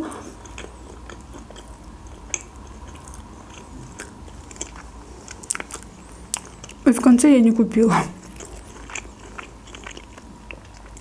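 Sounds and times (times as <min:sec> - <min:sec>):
wet chewing sounds: 0:00.1 - 0:06.8, 0:08.0 - 0:11.0.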